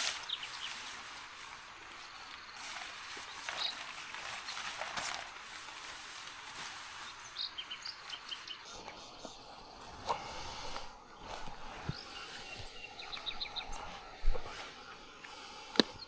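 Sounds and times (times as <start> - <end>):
small birds chirping: 0.0 - 16.0
steady outdoor hiss: 0.0 - 16.0.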